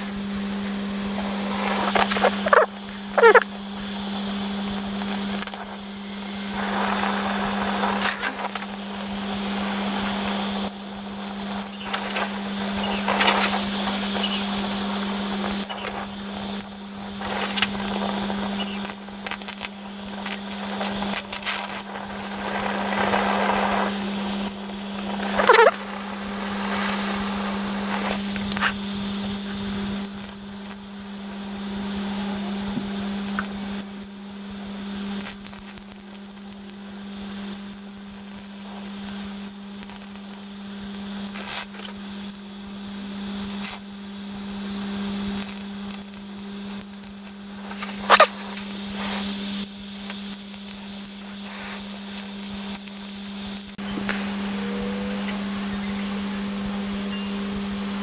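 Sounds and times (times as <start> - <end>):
arc welding crackle: 0.0 - 58.0
steady hum: 0.0 - 58.0.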